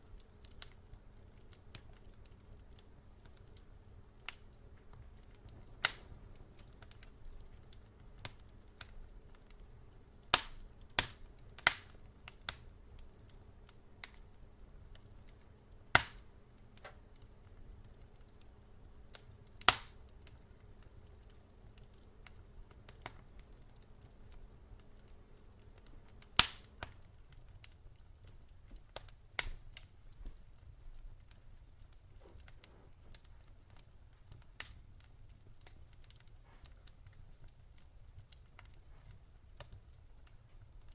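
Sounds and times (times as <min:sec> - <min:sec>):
low steady rumble: 0:00.0 - 0:40.8
campfire crackling and popping: 0:00.0 - 0:40.9.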